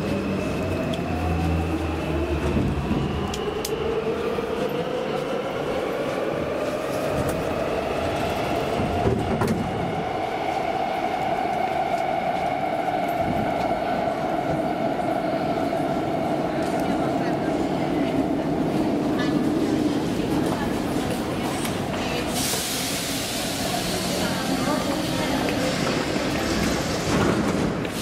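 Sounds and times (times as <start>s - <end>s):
train rolling rumble: 0.0s - 28.0s.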